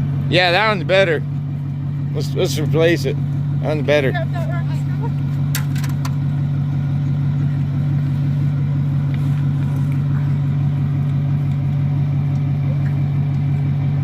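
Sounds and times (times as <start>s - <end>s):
pickup engine idling: 0.0s - 14.0s.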